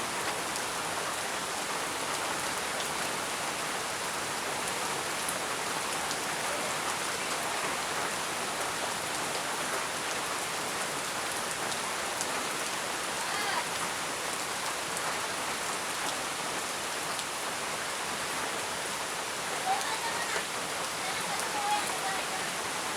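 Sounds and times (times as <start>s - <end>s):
heavy rain hissing: 0.0s - 22.9s.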